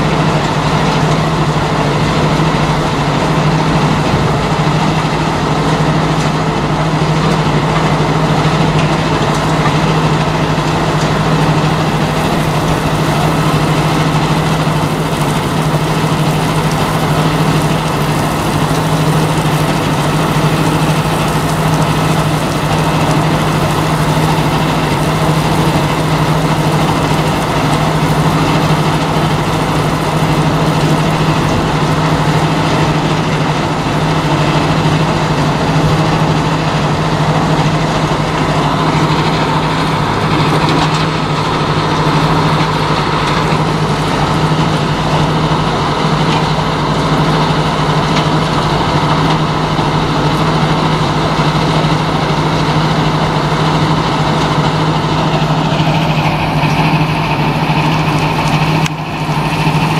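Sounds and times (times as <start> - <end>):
constant low hum: 0.0 - 53.6
crusher machinery drone: 0.0 - 59.9.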